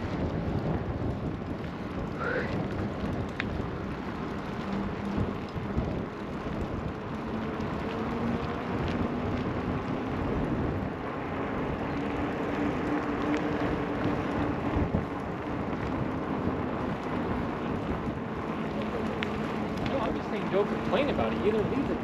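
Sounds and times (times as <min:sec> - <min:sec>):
steady rushing rumbling noise: 0:00.0 - 0:22.0.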